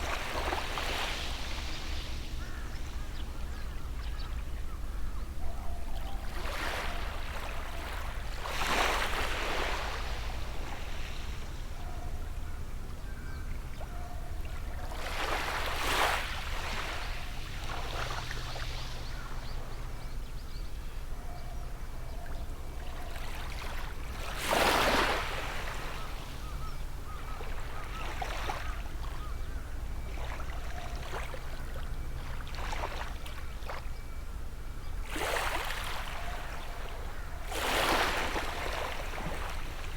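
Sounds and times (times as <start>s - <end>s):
faint bird calls: 0.0s - 39.9s.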